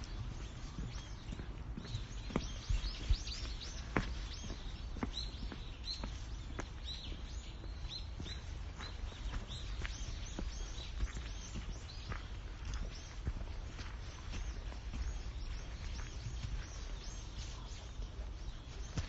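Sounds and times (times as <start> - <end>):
footsteps on forest path: 0.0 - 19.0
small birds chirping: 0.0 - 19.0.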